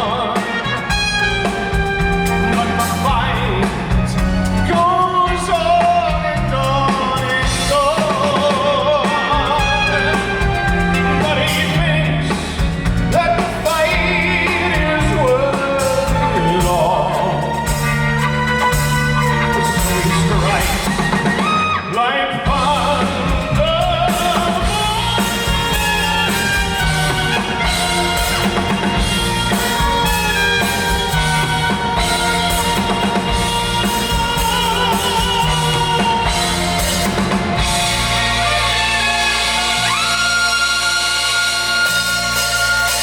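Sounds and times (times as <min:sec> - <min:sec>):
drum kit beat: 0:00.0 - 0:21.8, 0:22.4 - 0:43.0
live band music: 0:00.0 - 0:43.0.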